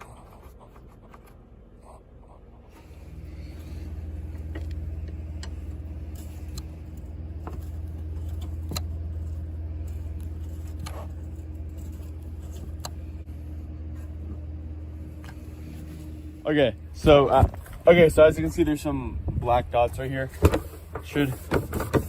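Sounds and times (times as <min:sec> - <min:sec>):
engine idling low hum: 0:00.0 - 0:22.0.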